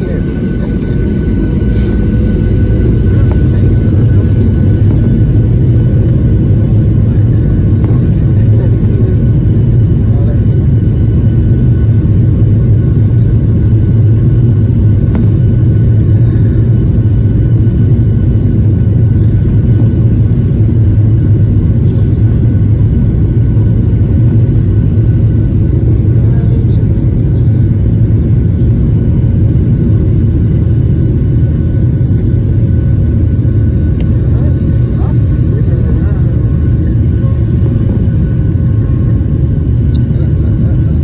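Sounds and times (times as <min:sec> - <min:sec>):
jet engine cabin rumble: 0:00.0 - 0:41.0.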